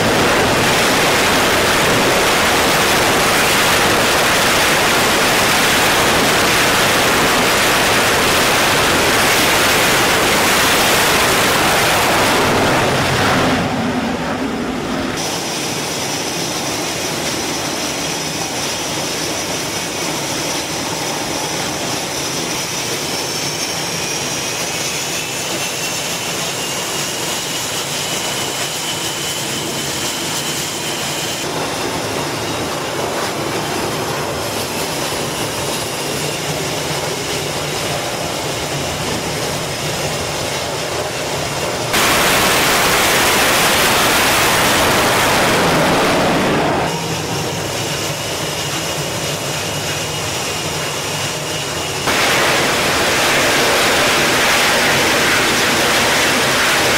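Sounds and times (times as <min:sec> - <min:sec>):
jet engines high whine: 0:00.0 - 0:56.9
loud jet roar: 0:00.0 - 0:56.9.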